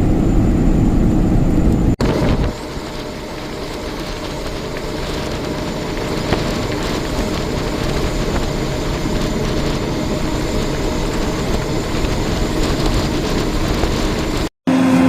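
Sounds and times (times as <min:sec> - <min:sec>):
diesel farm machinery rumbling: 0:00.0 - 0:15.0
faint whine: 0:00.0 - 0:15.0.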